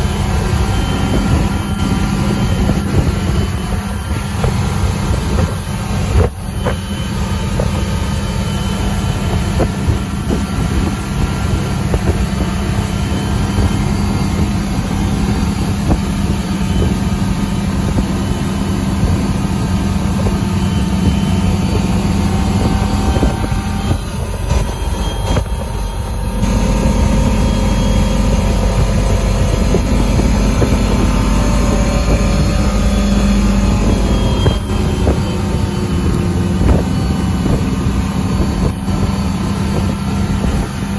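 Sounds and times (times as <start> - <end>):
boat engine rumble: 0.0 - 40.9
water rushing off hull: 0.0 - 40.9
wind on microphone: 0.0 - 40.9.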